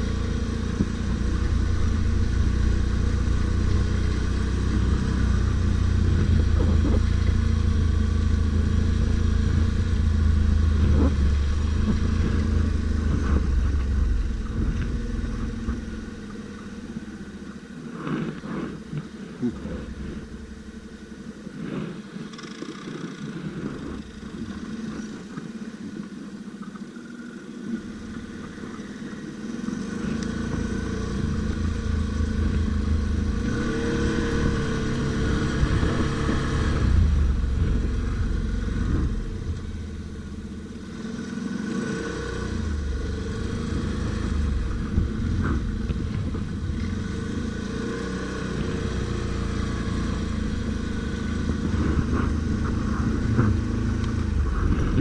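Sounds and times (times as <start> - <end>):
atv engine running: 0.0 - 25.7, 27.1 - 55.0.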